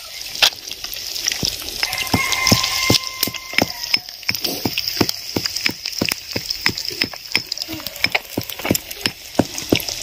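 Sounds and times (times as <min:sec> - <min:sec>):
fish frying in hot oil: 0:00.0 - 0:10.0.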